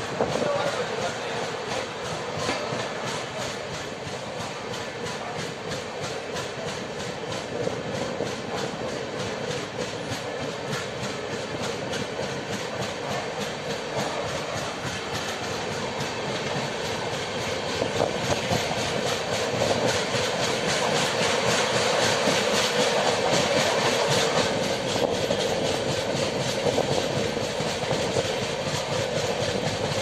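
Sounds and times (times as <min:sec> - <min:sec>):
train wheels clicking over rails: 0:00.0 - 0:30.0.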